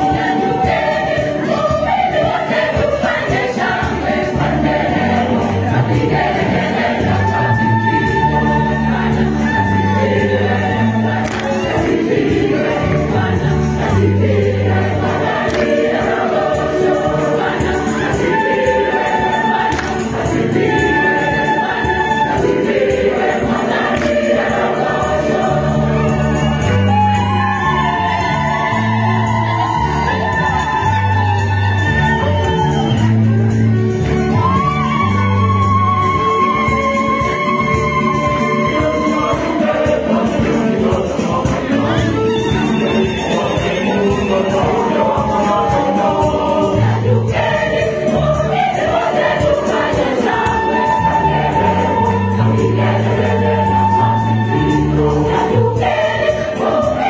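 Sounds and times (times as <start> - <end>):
choir singing gospel music: 0.0 - 57.0.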